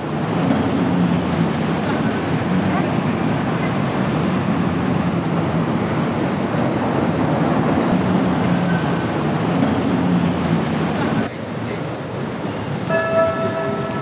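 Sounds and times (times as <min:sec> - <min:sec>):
bus and car engines humming: 0:00.0 - 0:14.0
road noise: 0:00.0 - 0:14.0.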